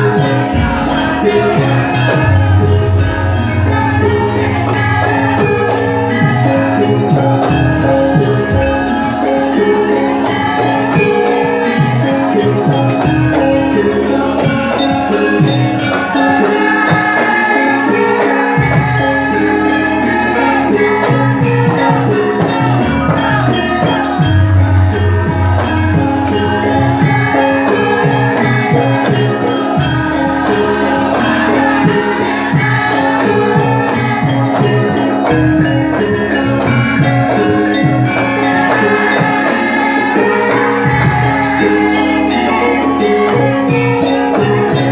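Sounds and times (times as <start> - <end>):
music with fast percussion beat: 0.0 - 44.9
person singing: 0.0 - 44.9.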